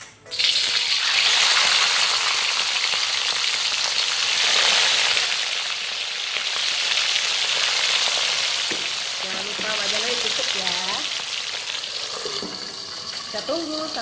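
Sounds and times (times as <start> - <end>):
oil sizzling in a wok: 0.3 - 14.0.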